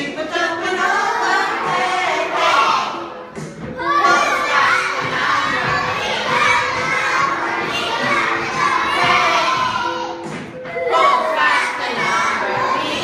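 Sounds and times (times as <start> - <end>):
children shouting and singing: 0.2 - 13.0.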